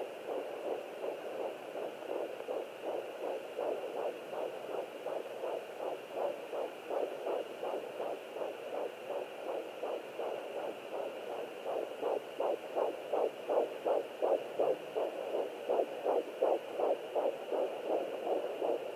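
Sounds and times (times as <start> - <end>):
doppler heartbeat whooshing: 0.3 - 18.9.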